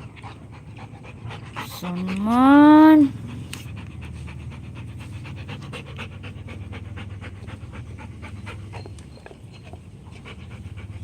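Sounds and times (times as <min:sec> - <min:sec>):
dog panting quickly: 0:00.0 - 0:11.0.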